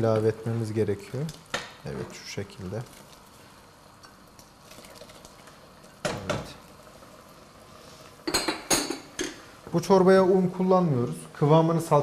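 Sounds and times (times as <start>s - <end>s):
faint simmering: 0.0s - 12.0s.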